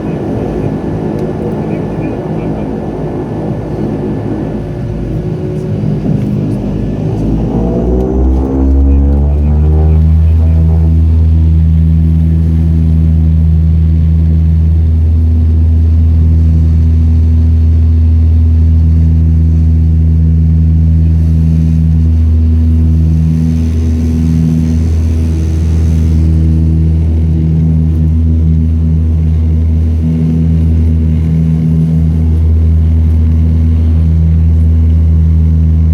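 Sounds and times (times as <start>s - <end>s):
turboprop engines droning: 0.0s - 35.9s.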